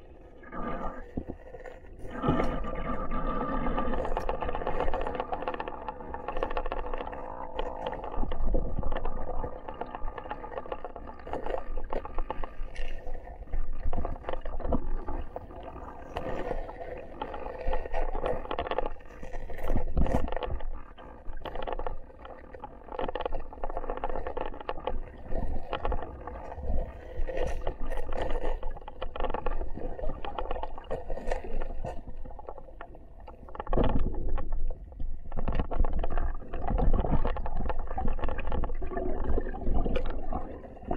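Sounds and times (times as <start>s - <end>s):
muffled gurgling underwater: 0.0s - 40.9s.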